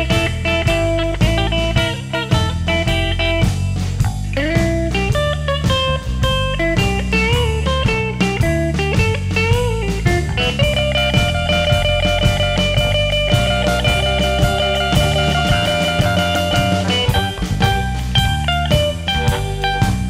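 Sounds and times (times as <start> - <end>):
electric guitar solo: 0.0 - 3.6, 4.3 - 20.0
bass and drums: 0.0 - 20.0.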